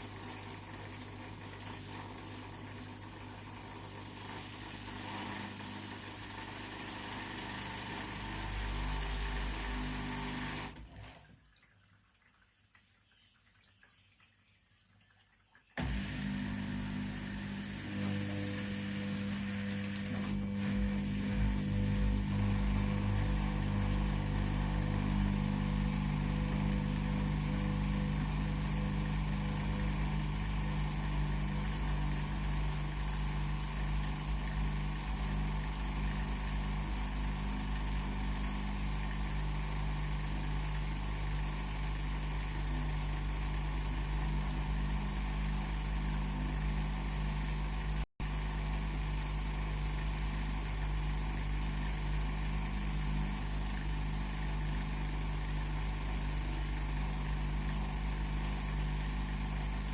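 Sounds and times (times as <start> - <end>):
washing machine running: 0.0 - 11.6, 15.8 - 59.9.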